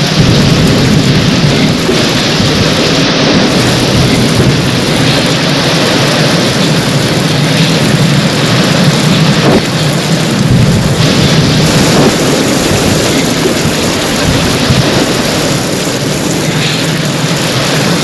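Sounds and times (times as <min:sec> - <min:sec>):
heavy rain falling: 0:00.0 - 0:18.0
low rumble of thunder: 0:00.0 - 0:18.0.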